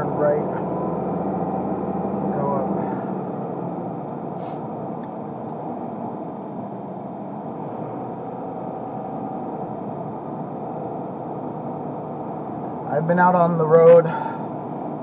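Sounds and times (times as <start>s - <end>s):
car engine running: 0.0s - 15.0s
road noise inside car: 0.0s - 15.0s.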